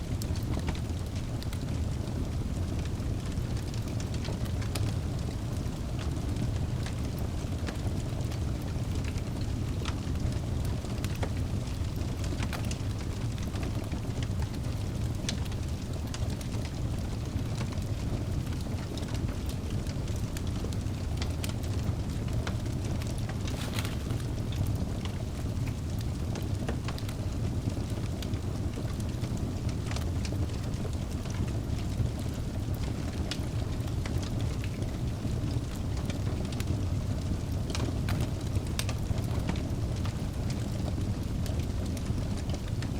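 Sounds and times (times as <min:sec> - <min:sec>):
fire flames rumbling: 0:00.0 - 0:42.9
logs crackling and popping: 0:00.0 - 0:42.9.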